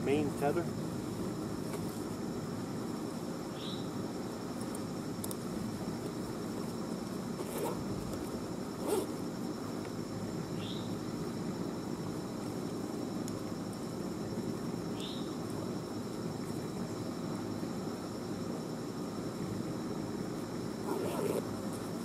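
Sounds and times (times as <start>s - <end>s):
high insect drone: 0.0s - 22.0s
outdoor background rumble: 0.0s - 22.0s.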